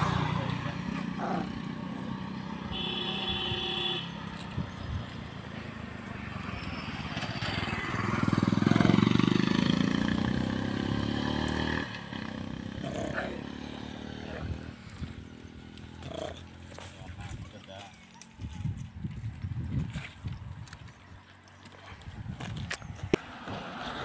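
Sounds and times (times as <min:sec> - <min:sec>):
motorcycle passing by: 0:00.0 - 0:17.9, 0:19.8 - 0:24.0.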